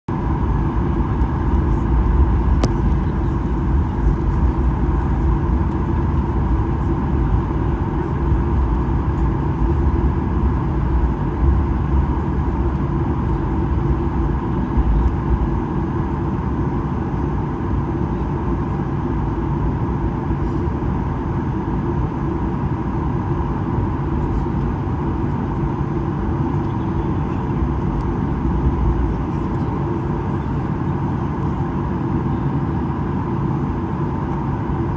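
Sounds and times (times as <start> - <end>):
jet engines humming in cabin: 0.1 - 34.9.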